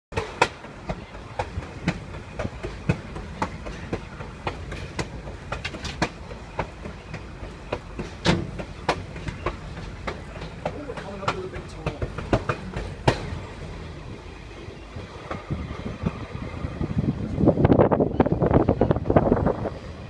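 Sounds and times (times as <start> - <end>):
train wheel clacks: 0.1 - 16.4
train rumble: 0.1 - 20.0.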